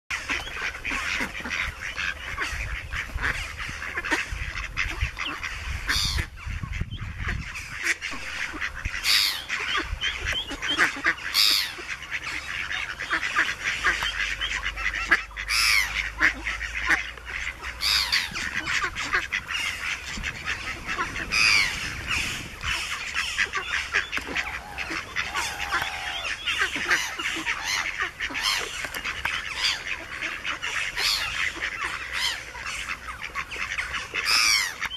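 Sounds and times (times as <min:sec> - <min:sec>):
ducklings peeping: 0:00.1 - 0:34.9
sharp duckling calls: 0:00.1 - 0:34.9.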